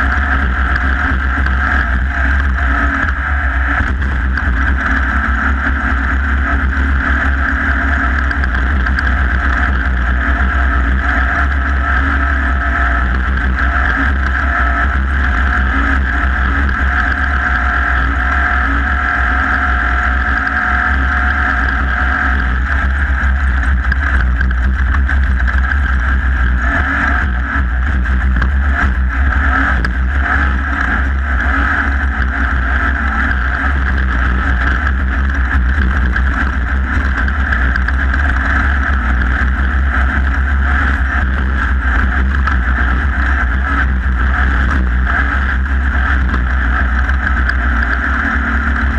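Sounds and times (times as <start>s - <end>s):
race vehicle engine running hard: 0.0s - 48.9s
wind rumble on microphone: 0.0s - 48.9s.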